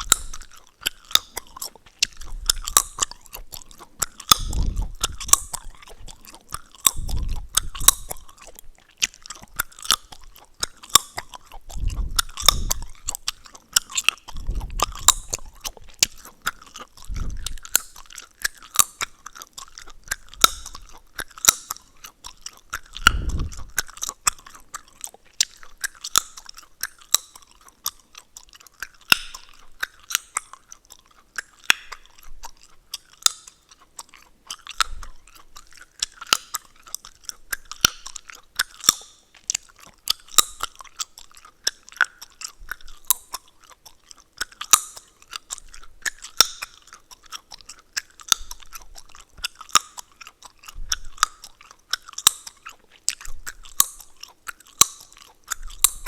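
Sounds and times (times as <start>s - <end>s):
gum chewing smacks and cracks: 0.0s - 56.0s.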